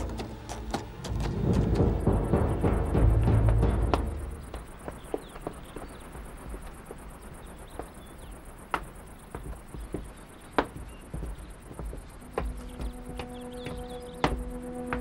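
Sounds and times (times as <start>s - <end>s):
footsteps on carpeted stairs: 0.0s - 7.0s, 7.7s - 15.0s
faint high chirps: 1.7s - 15.0s.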